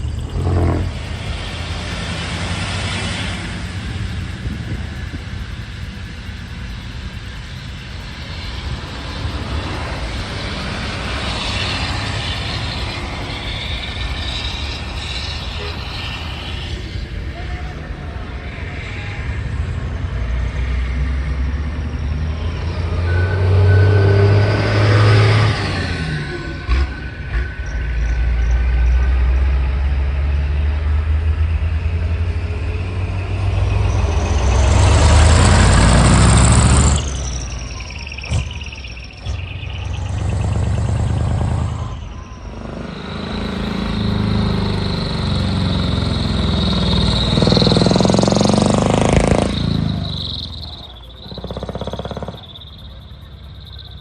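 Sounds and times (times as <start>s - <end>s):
diesel trucks pulling away: 0.0s - 54.0s.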